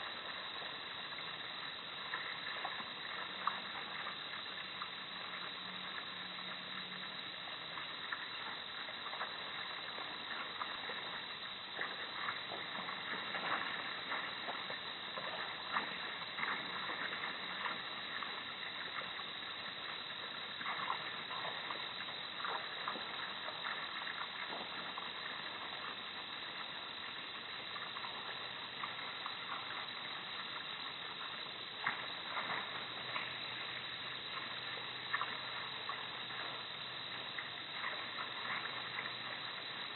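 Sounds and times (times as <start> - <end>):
faint ticks and rustles: 0.0 - 39.9
night ambience hiss: 0.0 - 39.9.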